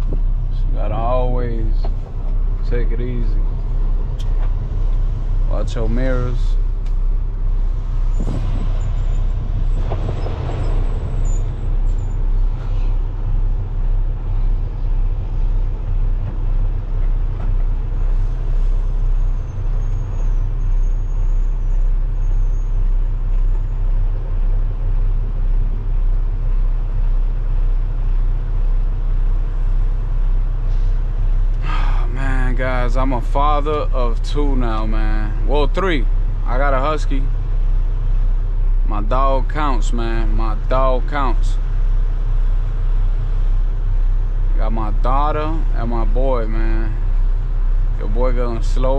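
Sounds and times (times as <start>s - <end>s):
truck diesel engine droning: 0.0s - 48.9s.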